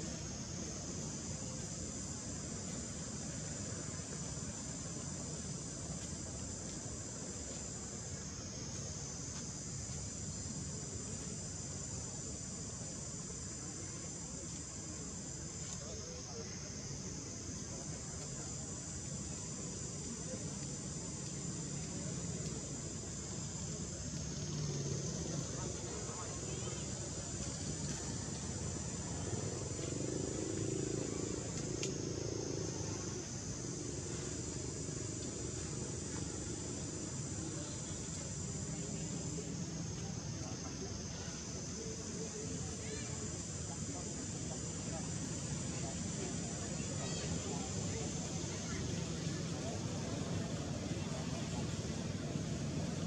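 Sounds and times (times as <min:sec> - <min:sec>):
insect chorus drone: 0:00.0 - 0:53.0.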